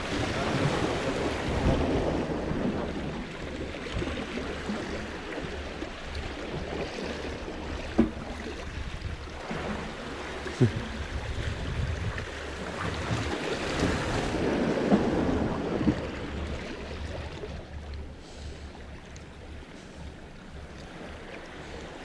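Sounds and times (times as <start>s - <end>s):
wind rumbling on microphone: 0.0s - 17.6s
waves breaking over rocks: 0.0s - 22.0s.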